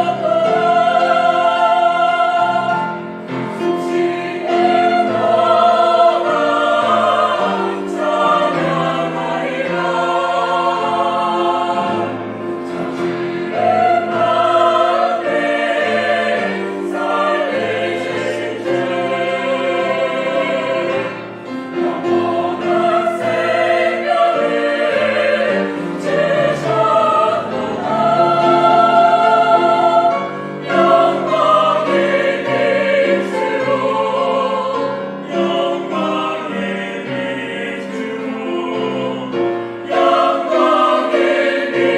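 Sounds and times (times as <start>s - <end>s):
choir singing a hymn: 0.0s - 41.9s
instrumental accompaniment: 0.0s - 41.9s.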